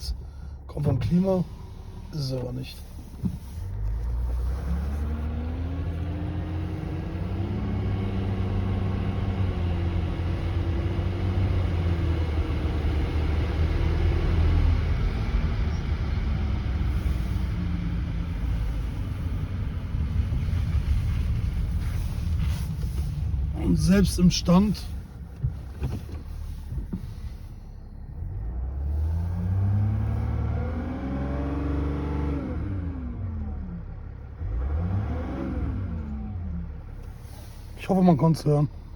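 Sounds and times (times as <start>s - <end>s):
engine and road drone: 0.0s - 38.9s.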